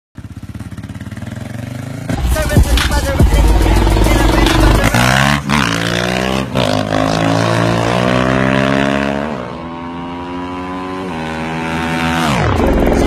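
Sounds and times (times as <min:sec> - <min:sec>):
dirt bike engine revving: 0:00.2 - 0:13.0.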